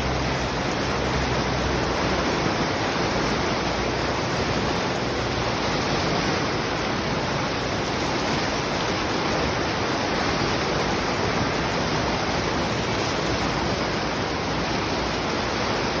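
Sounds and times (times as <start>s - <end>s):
water rushing over spillway: 0.0s - 16.0s.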